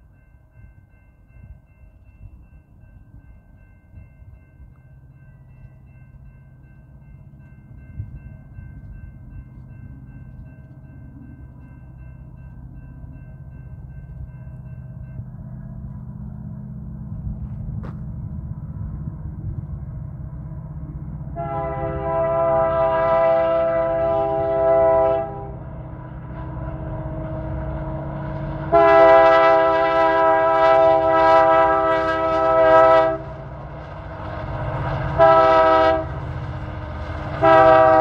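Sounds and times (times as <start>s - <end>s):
diesel locomotive engine drone: 0.0s - 38.0s.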